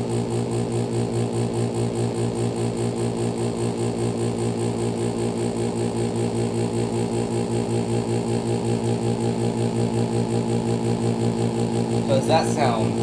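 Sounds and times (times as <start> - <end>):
heat pump humming with pulsing: 0.0 - 13.0.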